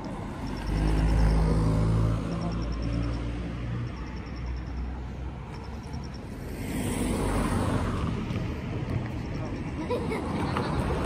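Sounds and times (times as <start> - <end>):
car passing by: 0.0 - 9.1.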